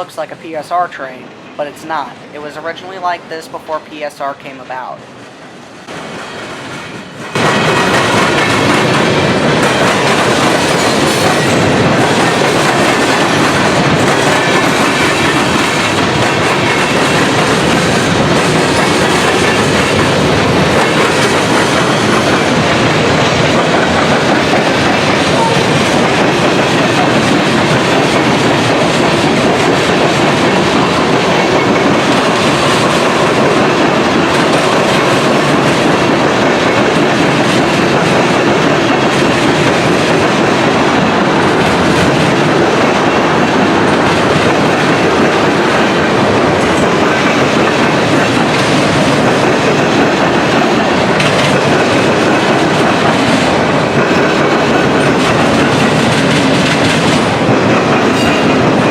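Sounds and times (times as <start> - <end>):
freight train rolling past: 0.0 - 58.9
steel wheels on rails: 5.4 - 58.9.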